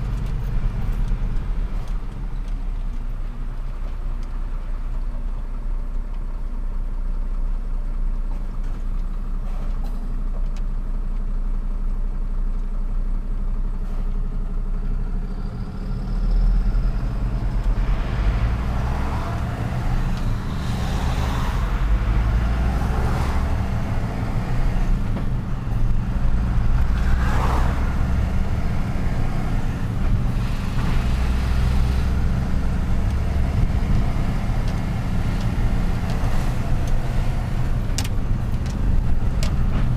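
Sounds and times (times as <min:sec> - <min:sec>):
road and traffic noise: 0:00.0 - 0:39.9
truck engine running: 0:00.0 - 0:39.9.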